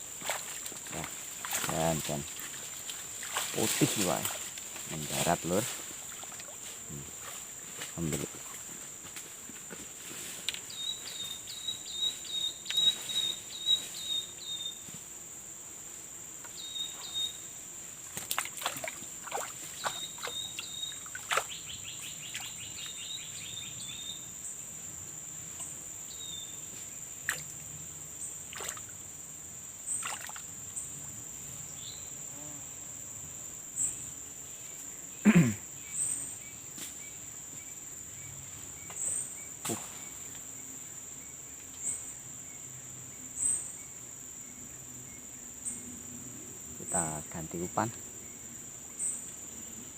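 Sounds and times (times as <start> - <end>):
high insect drone: 0.0 - 49.9.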